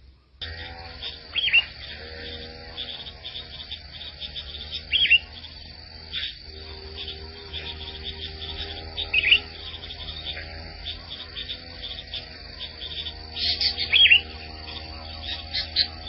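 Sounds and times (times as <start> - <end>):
insects chorus: 0.0 - 16.0
short high bird calls: 0.4 - 16.0.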